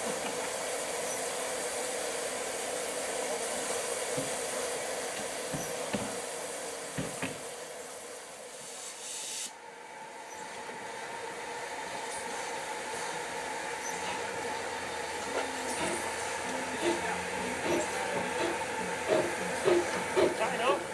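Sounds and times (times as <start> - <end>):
steam hissing: 0.0 - 9.6, 12.0 - 20.9.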